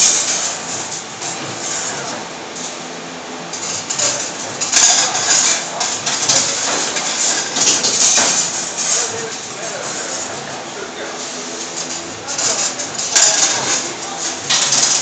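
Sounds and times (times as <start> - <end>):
bending machine running: 0.0 - 15.0.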